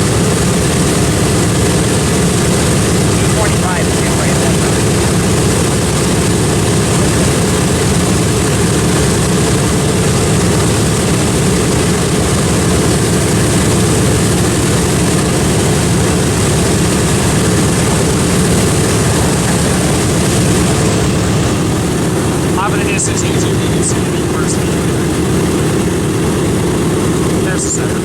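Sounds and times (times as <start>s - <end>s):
propeller aircraft engine drone: 0.0s - 28.0s.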